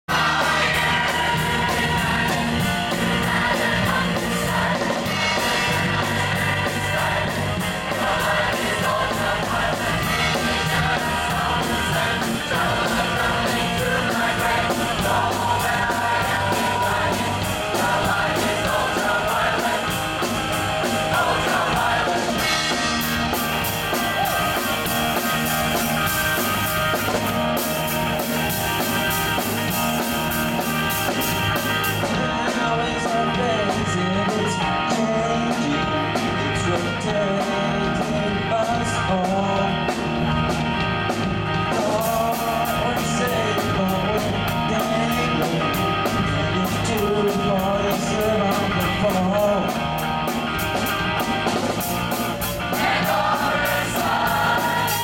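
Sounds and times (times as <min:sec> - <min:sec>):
drum kit: 0:00.0 - 0:55.0
large choir singing: 0:00.1 - 0:40.2, 0:41.5 - 0:50.1, 0:50.7 - 0:55.0
electric guitar: 0:00.1 - 0:55.0.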